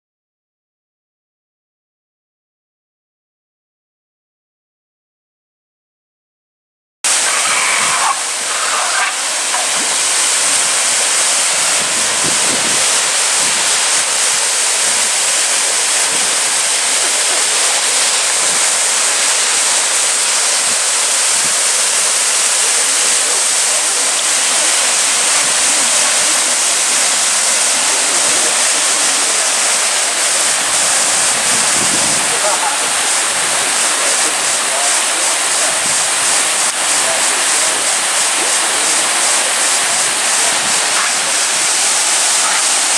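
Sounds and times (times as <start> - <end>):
water rushing over rocks: 7.1 - 42.9.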